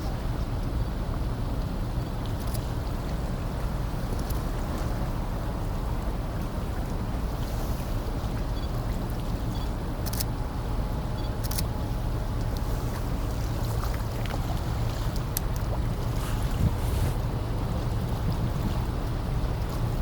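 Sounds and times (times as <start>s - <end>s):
water around hull: 0.0s - 20.0s.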